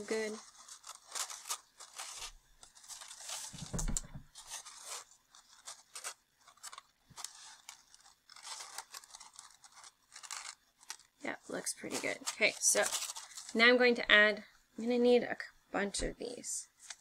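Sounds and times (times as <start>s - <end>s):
paper rustling and crackling: 0.0s - 13.6s.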